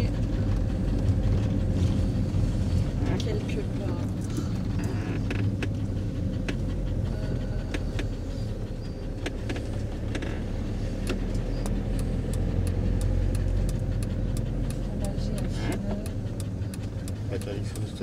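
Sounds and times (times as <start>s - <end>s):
motorhome engine and road rumble: 0.0s - 18.0s.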